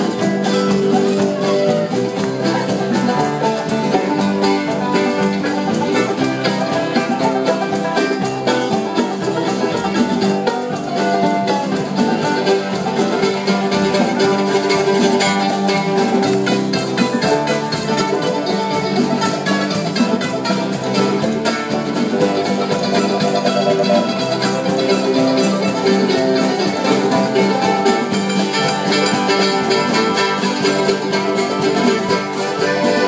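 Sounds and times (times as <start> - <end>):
acoustic guitars: 0.0 - 33.0
drum kit beat: 0.0 - 33.0.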